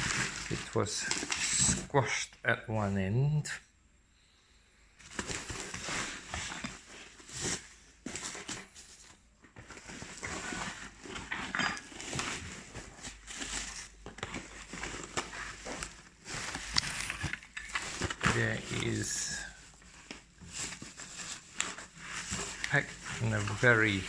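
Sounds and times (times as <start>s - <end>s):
bubble-foam packaging crinkling: 0.0s - 1.9s, 5.1s - 24.0s.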